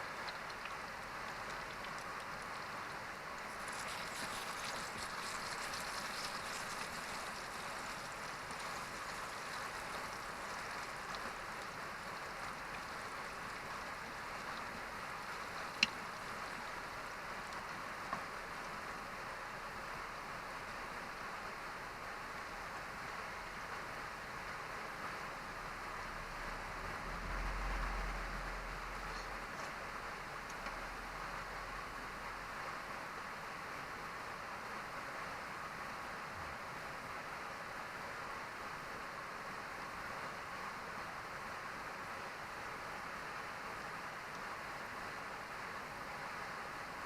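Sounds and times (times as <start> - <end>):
stream rushing: 0.0 - 47.0.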